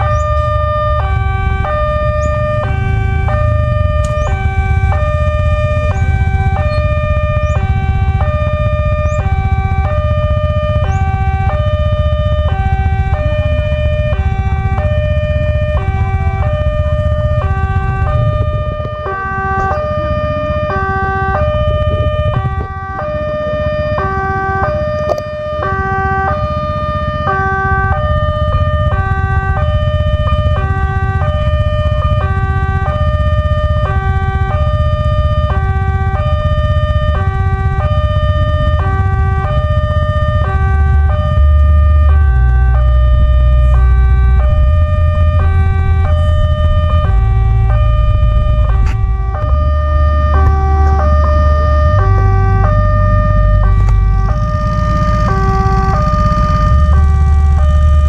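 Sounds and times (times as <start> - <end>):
level crossing warning alarm: 0.0 - 58.0
steady low rumble: 0.0 - 58.0.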